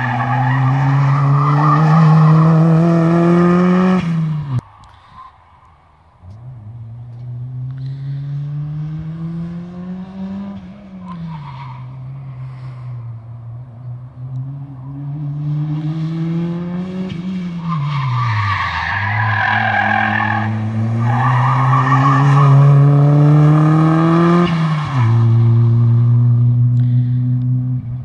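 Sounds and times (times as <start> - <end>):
rally car engine at full throttle: 0.0 - 5.0, 6.3 - 28.0.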